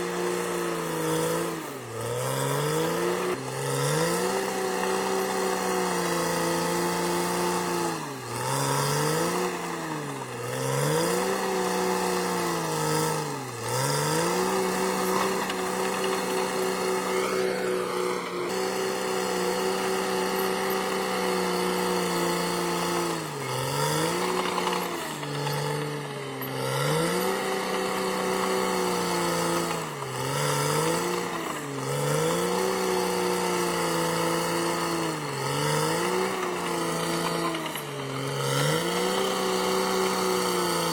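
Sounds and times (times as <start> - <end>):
bulldozer diesel engine revving: 0.0 - 40.9.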